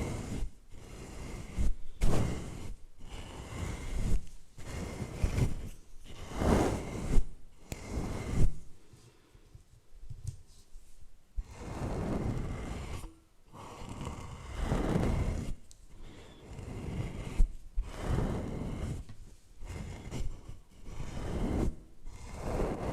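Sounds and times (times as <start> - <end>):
brush rubbing on microphone: 0.0 - 8.7, 11.4 - 13.1, 13.8 - 22.9.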